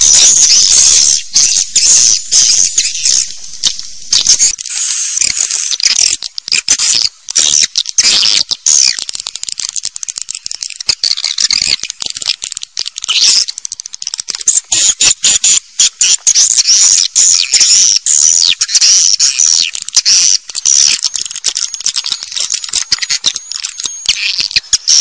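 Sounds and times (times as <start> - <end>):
swiftlets chirping: 0.0 - 25.0.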